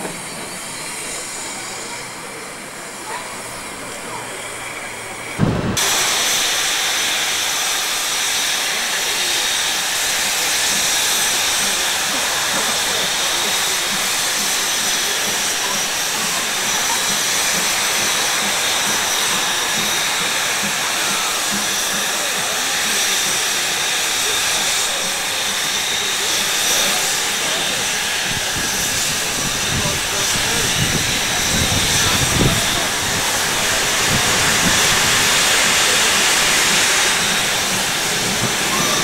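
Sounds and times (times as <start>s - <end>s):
steam locomotive hissing steam: 0.0s - 39.0s.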